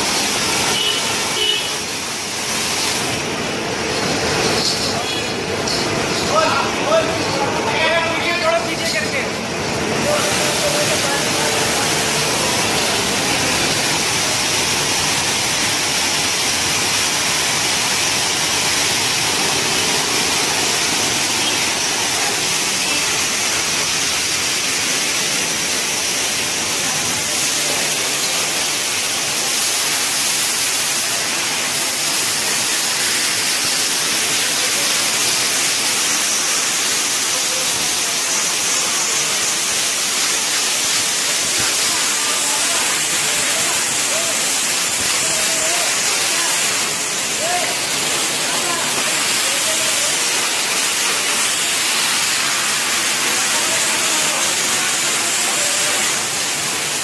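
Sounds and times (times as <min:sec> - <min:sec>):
pressure washer water spray: 0:00.0 - 0:57.0.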